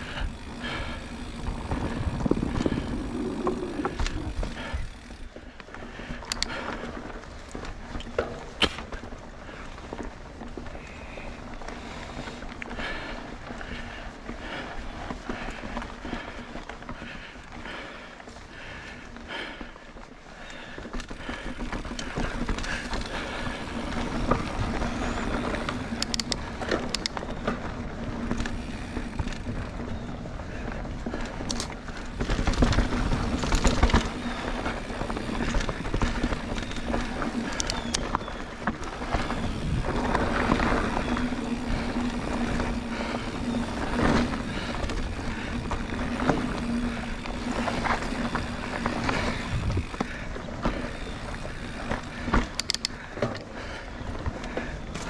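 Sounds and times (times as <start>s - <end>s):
bike chain and frame rattling: 0.0s - 55.0s
bike tyres crunching over dirt: 0.0s - 55.0s.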